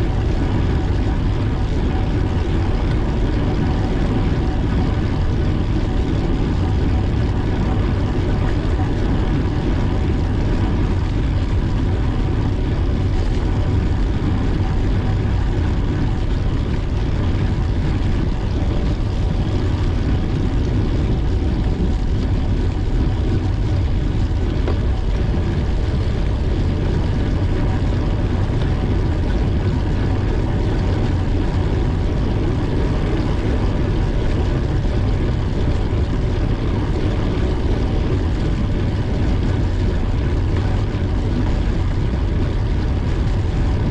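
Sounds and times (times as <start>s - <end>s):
faint constant hum: 0.0s - 43.9s
wind buffeting microphone: 0.0s - 43.9s.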